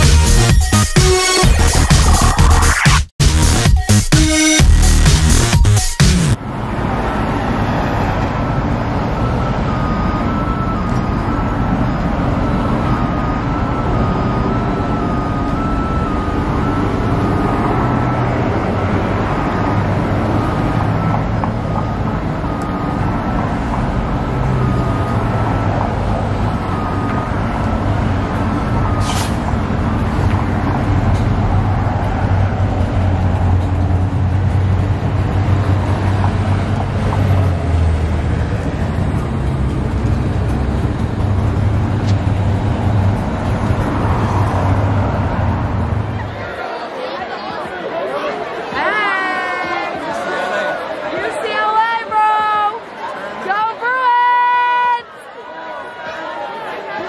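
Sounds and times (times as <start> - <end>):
cars passing: 0.0 - 2.9, 6.2 - 57.0
bus engine rumbling: 0.0 - 57.0.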